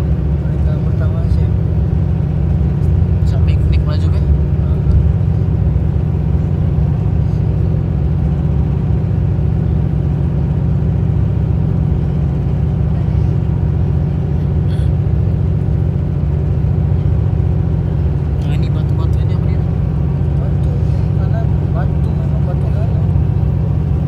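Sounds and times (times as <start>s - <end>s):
vehicle rumble from inside cabin: 0.0s - 24.0s.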